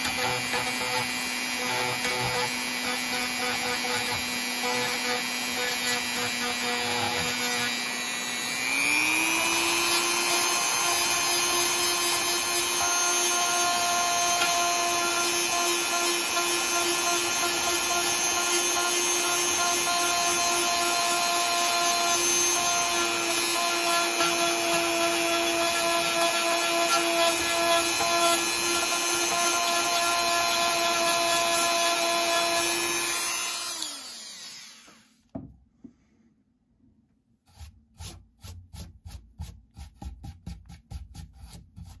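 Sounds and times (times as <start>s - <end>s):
rotary tool motor whine: 0.1s - 35.1s.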